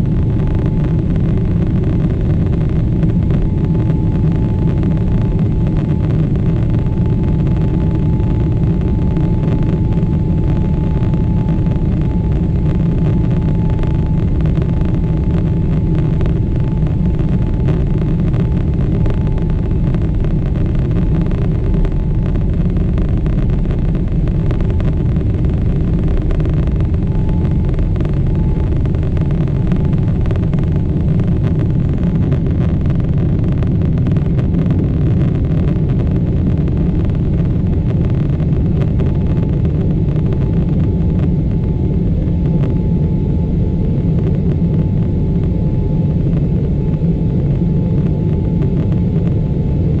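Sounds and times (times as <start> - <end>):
faint steady whine: 0.0 - 50.0
jet engine rumble: 0.0 - 50.0.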